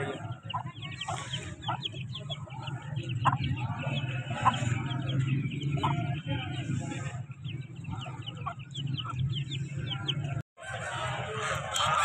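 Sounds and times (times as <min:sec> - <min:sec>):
birds chirping: 0:00.0 - 0:10.4
chickens clucking: 0:00.0 - 0:12.0.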